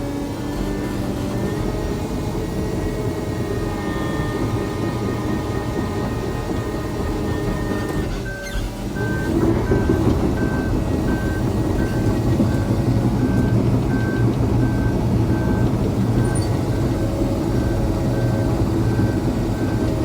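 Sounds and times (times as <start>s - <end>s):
diesel engine running under load: 0.0s - 20.0s
backup alarm beeping: 3.8s - 20.0s.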